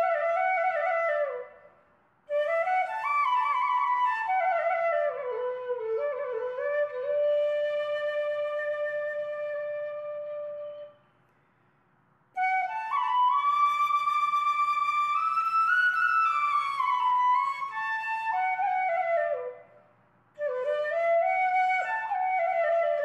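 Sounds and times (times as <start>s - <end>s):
slow solo flute melody: 0.0s - 1.7s, 2.3s - 11.2s, 12.4s - 19.8s, 20.4s - 23.0s.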